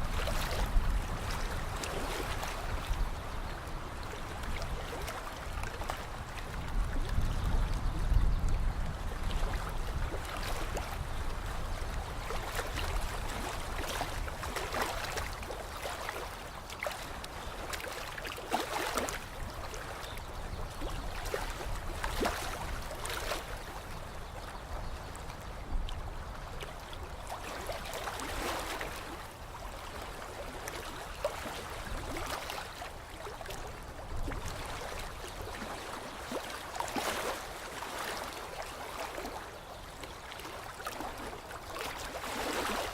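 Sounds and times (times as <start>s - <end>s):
lake water lapping: 0.0s - 42.9s.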